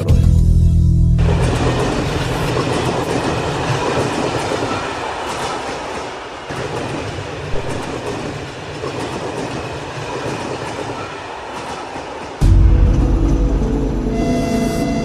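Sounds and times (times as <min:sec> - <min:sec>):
train rumbling along rails: 0:01.2 - 0:15.0.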